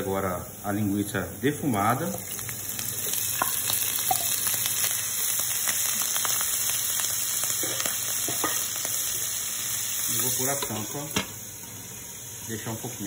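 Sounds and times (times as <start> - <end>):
sausage sizzling in a pan: 0.0 - 13.0.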